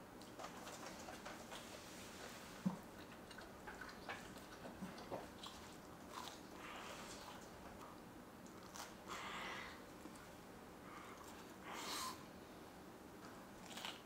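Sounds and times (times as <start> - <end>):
chewing pizza: 0.0 - 11.6, 13.2 - 14.0.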